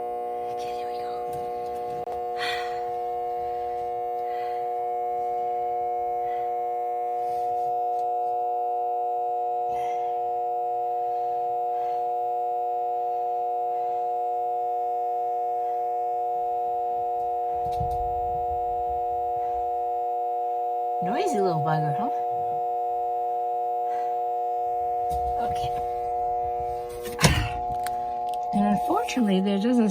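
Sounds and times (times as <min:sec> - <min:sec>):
power converter electrical hum: 0:00.0 - 0:29.9.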